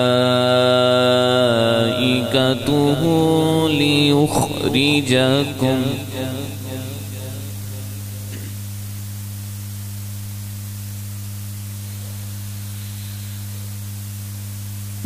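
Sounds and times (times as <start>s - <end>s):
electrical mains hum with hiss: 0.0s - 15.0s.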